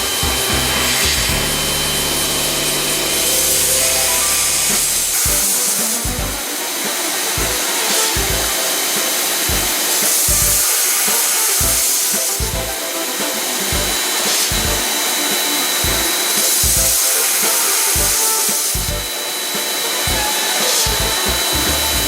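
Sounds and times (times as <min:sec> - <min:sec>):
background music: 0:00.0 - 0:22.0
high-pressure water jets hissing: 0:00.0 - 0:22.0.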